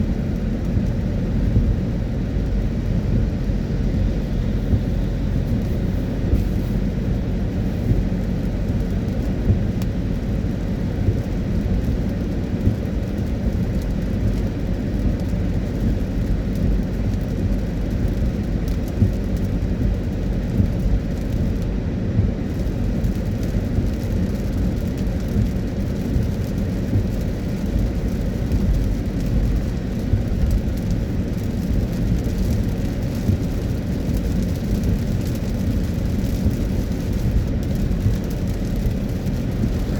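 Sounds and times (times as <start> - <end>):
car tyres on wet road: 0.0 - 39.9
rain noise: 0.0 - 39.9.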